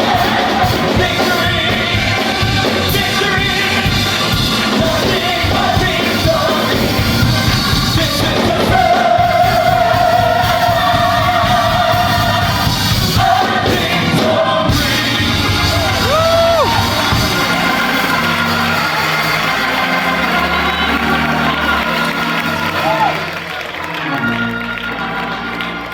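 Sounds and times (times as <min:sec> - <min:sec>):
gospel choir singing with band: 0:00.0 - 0:25.9.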